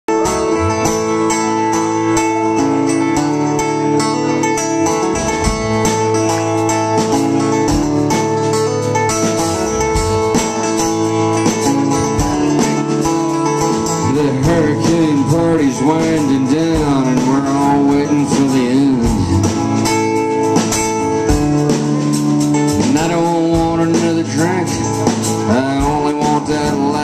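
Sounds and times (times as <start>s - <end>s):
live country-rock band: 0.0s - 27.0s
strummed guitar: 0.0s - 27.0s.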